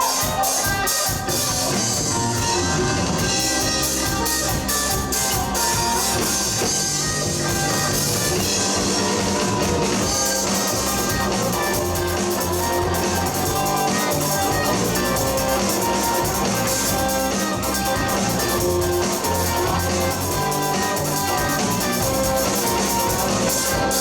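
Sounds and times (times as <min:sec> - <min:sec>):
bass guitar: 0:00.0 - 0:24.0
drum kit: 0:00.0 - 0:24.0
electric guitars: 0:00.0 - 0:24.0.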